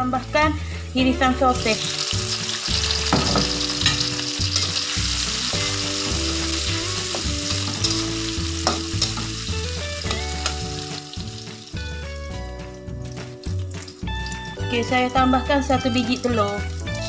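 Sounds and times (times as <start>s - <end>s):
sausage sizzling in hot oil: 0.1s - 17.0s.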